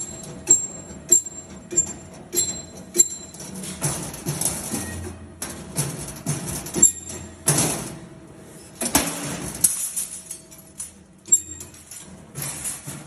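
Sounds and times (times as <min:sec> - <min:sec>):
wire bending machine clicking: 0:00.0 - 0:08.0, 0:08.8 - 0:13.0.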